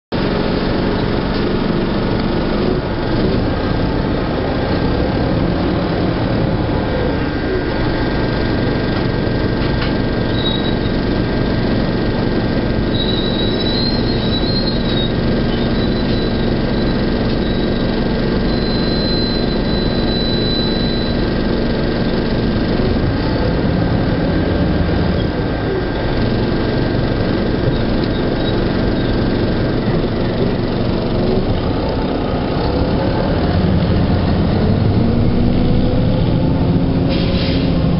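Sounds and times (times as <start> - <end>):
diesel bus engine running: 0.1 - 37.9.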